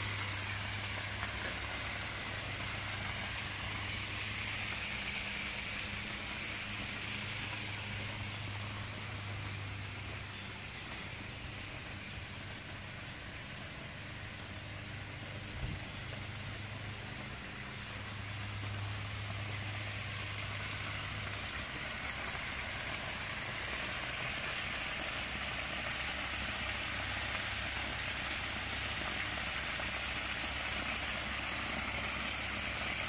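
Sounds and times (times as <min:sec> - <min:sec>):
waterfall splashing onto gravel: 0:00.0 - 0:33.0.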